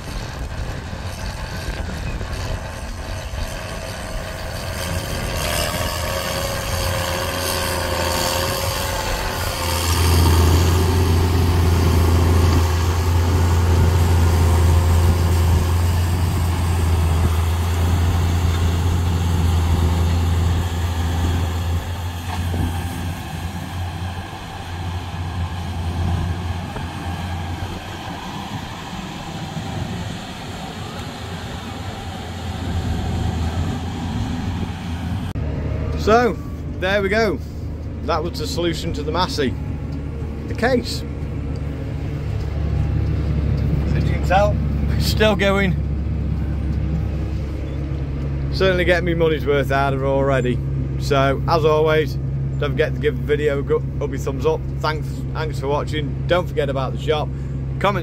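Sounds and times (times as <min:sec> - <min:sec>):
tractor diesel engine drone: 0:00.0 - 0:58.0.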